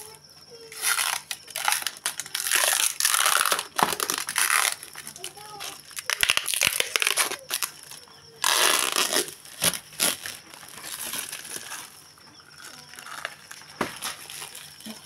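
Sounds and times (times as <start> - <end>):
plastic bags crinkling and tearing: 0.7 - 15.0.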